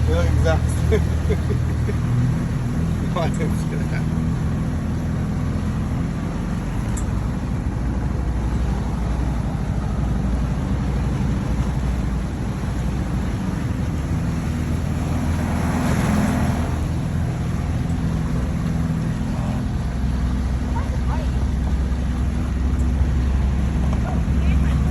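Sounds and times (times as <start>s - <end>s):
motorboat engine running: 0.0s - 24.9s
rush of wind and water: 0.0s - 24.9s.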